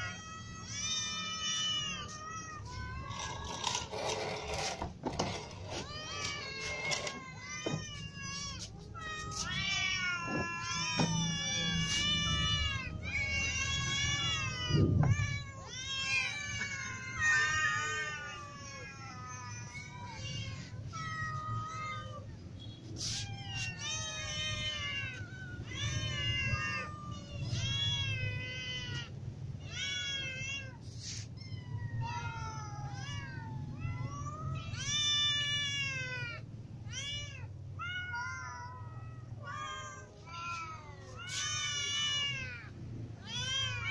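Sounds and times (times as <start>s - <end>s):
cats meowing: 0.0s - 43.9s.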